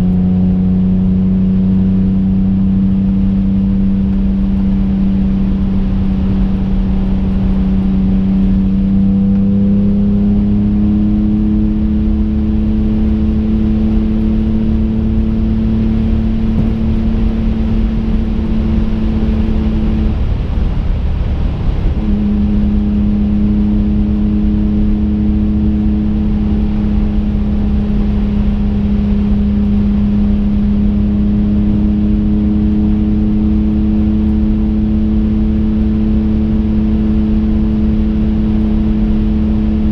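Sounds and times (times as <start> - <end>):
car engine drone from inside cabin: 0.0 - 39.9.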